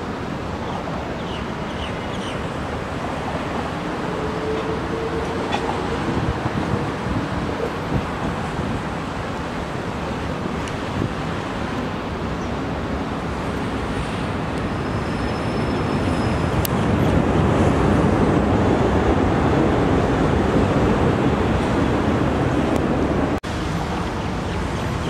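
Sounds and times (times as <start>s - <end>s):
jet engines at taxi power: 0.0s - 25.0s.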